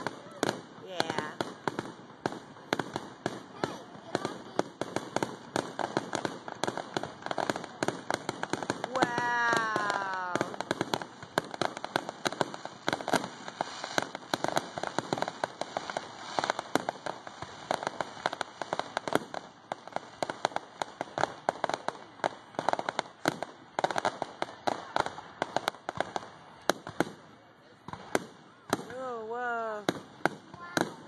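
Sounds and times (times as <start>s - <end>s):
fireworks popping and crackling: 0.0s - 31.0s.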